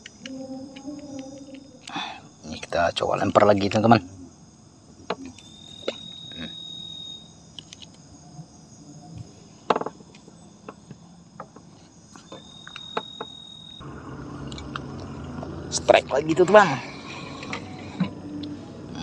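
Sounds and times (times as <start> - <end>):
crickets chirring: 0.0 - 19.0.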